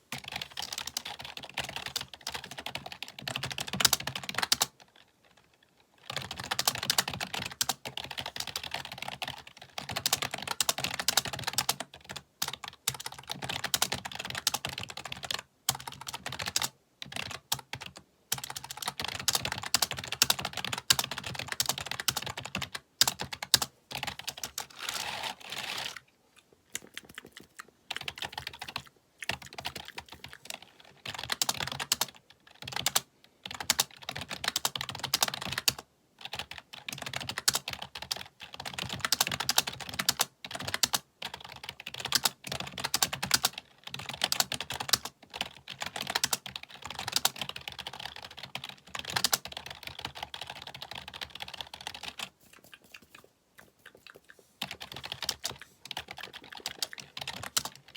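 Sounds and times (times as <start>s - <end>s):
rapid keyboard typing: 0.0s - 26.0s, 26.7s - 57.9s.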